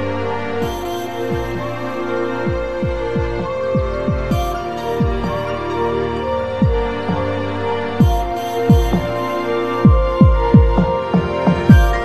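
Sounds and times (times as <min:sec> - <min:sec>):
held synth notes: 0:00.0 - 0:12.0
deep bass beats: 0:00.6 - 0:01.8, 0:02.4 - 0:12.0.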